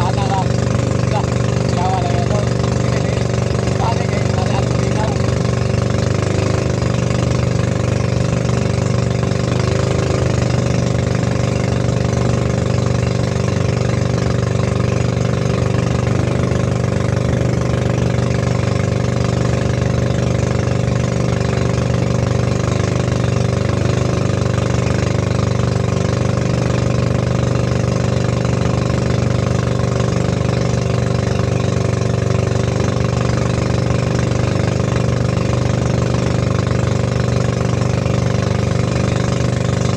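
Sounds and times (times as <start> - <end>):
boat engine running: 0.0 - 39.9
water splashing along hull: 0.0 - 39.9.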